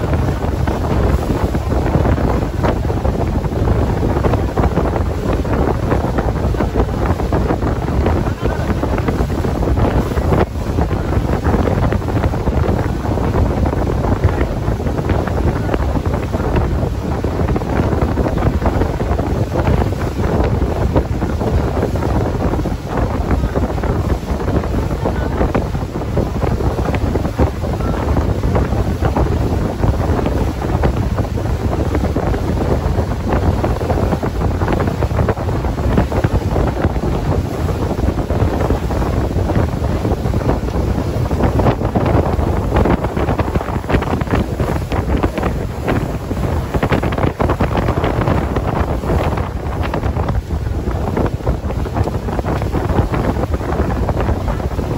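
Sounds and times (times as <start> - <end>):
speedboat running over water: 0.0 - 54.9
wind buffeting microphone: 0.0 - 54.9.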